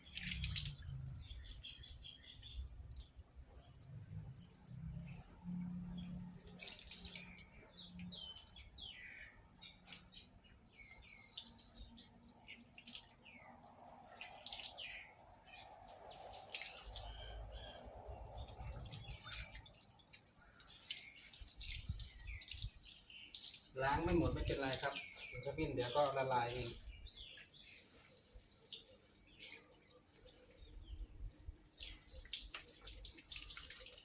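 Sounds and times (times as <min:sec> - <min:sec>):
running water splashing: 0:00.0 - 0:27.2, 0:27.9 - 0:34.0
birds chirping: 0:00.0 - 0:34.0.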